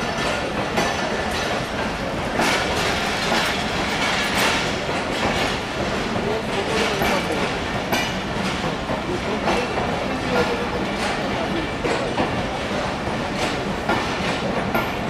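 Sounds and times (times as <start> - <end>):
train wheels clacking over rail joints: 0.0 - 15.0.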